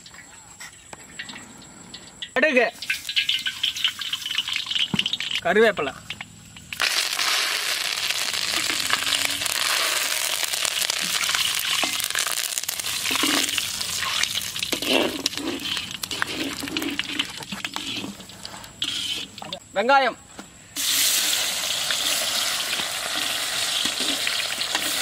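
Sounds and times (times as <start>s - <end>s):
leaves sizzling in hot oil: 2.7s - 5.4s, 6.5s - 19.6s, 20.8s - 25.0s.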